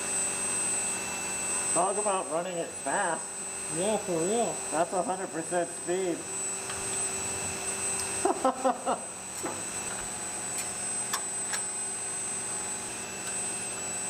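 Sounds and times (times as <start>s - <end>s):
extruder hum with high whine: 0.0s - 14.0s.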